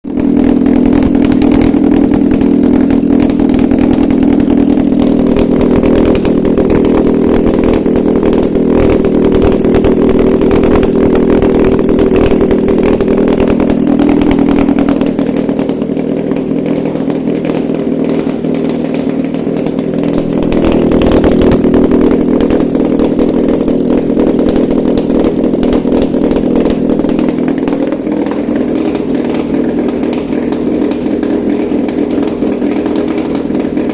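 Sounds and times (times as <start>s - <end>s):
petrol engine running: 0.0s - 33.9s.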